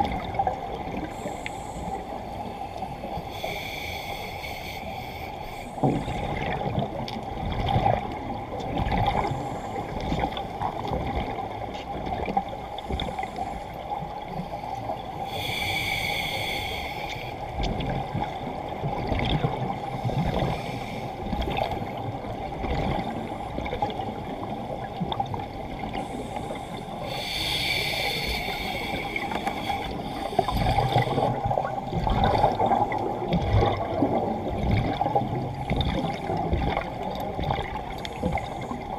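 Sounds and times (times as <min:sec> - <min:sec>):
regulator bubbles underwater: 0:00.0 - 0:03.9, 0:05.6 - 0:38.9.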